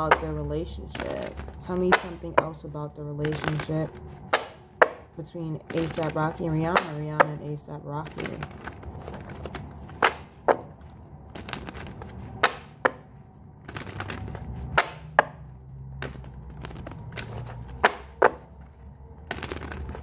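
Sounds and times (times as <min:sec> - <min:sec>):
cards being shuffled: 0:00.0 - 0:20.0.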